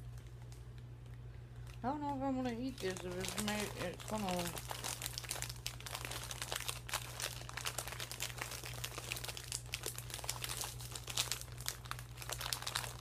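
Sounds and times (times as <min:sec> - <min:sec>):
snack bag crinkling: 0:00.0 - 0:13.0
steady low hum: 0:00.0 - 0:13.0.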